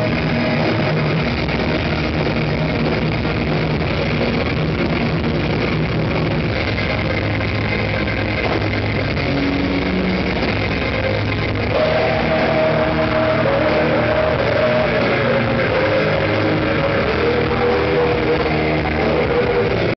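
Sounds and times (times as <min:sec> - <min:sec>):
heavy metal band playing: 0:00.0 - 0:20.0
held melody line: 0:00.0 - 0:20.0.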